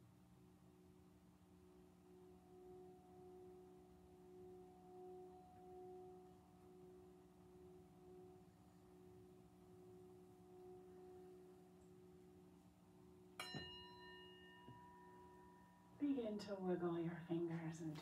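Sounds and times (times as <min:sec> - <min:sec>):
singing bowl ringing: 0:02.0 - 0:16.5.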